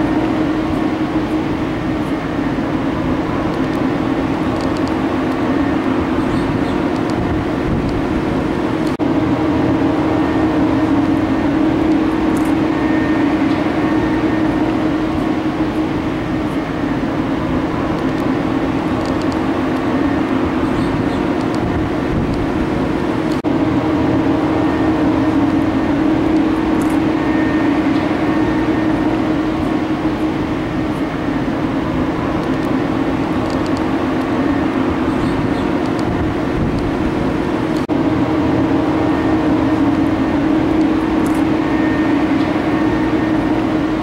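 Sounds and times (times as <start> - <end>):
engine drone and traffic noise: 0.0 - 44.0
steady tones: 0.0 - 44.0.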